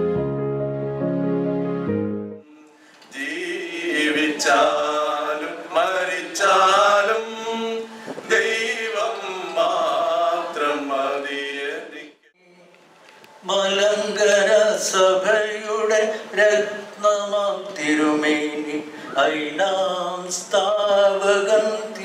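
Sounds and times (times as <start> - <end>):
man singing unaccompanied: 2.4 - 12.7, 13.4 - 22.0.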